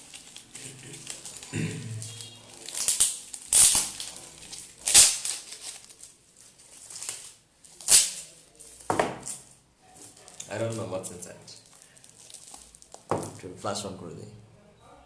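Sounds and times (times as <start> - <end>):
gift packaging rustling: 0.0 - 13.5.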